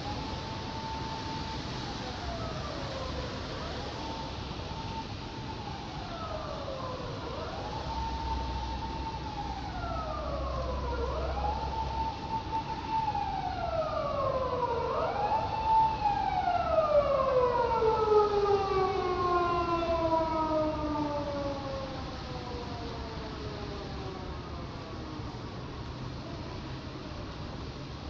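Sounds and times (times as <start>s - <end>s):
emergency vehicle siren wailing: 0.0s - 28.0s.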